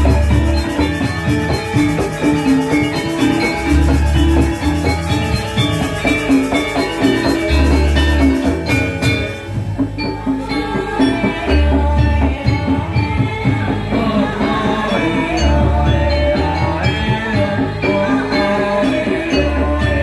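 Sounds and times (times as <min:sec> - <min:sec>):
drumming: 0:00.0 - 0:20.0
metallophones ringing: 0:00.0 - 0:20.0.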